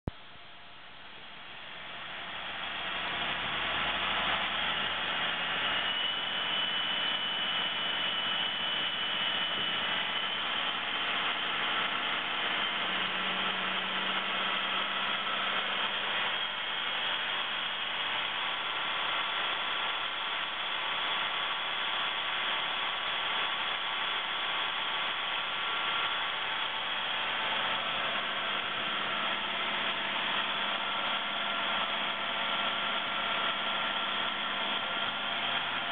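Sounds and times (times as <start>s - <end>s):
diesel engine running: 1.7s - 35.9s
turbocharger whistle: 2.6s - 35.8s.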